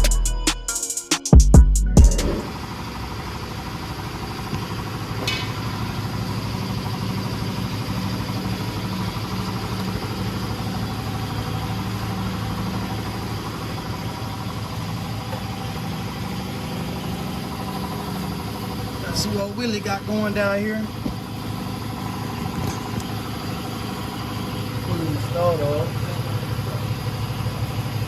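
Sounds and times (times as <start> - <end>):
engine idling: 1.4 - 28.0.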